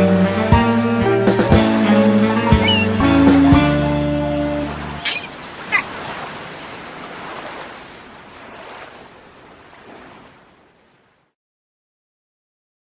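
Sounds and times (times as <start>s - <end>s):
sea surf washing: 0.0s - 11.3s.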